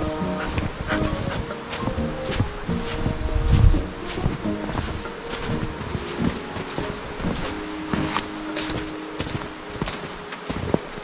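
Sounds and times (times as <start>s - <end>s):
music with held notes over beat: 0.0s - 11.0s.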